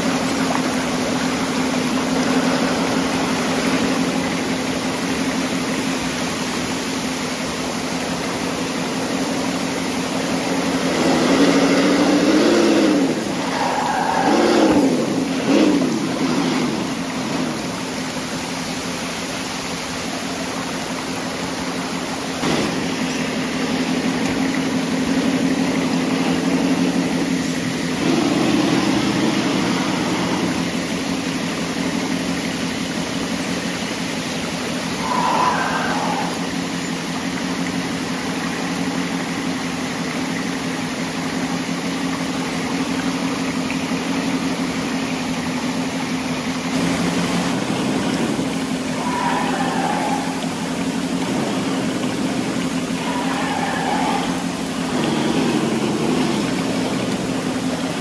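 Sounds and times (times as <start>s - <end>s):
engine humming and revving: 0.0s - 58.0s
rushing creek water: 0.0s - 58.0s.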